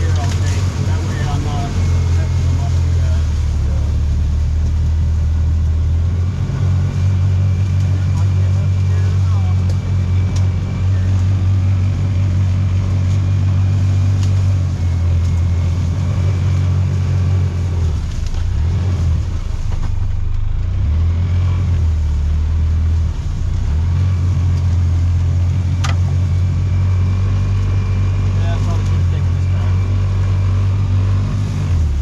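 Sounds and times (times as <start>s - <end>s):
utility vehicle engine running: 0.0s - 32.0s.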